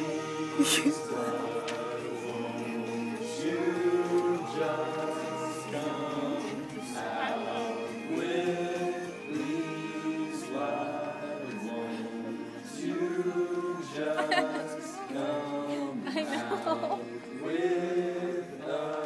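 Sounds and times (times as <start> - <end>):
men singing together: 0.0 - 19.0.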